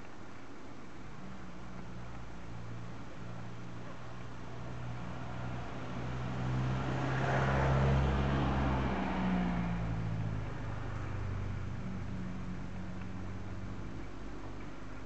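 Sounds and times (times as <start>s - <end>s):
road vehicle passing: 1.2s - 15.0s.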